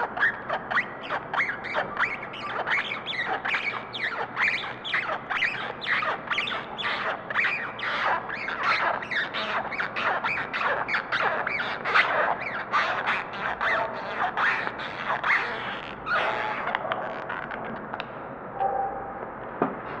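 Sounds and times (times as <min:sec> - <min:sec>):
shrill squeals: 0:00.0 - 0:17.6.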